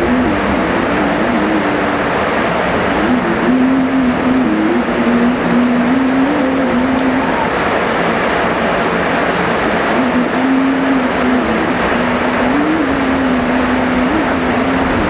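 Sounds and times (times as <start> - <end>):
heavy rain: 0.0 - 15.0
low wavering hum: 0.0 - 15.0.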